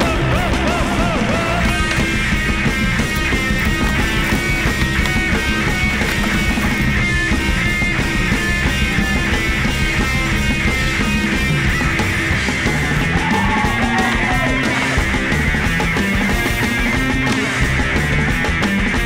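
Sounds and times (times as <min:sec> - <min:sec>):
loud punk rock music: 0:00.0 - 0:19.0.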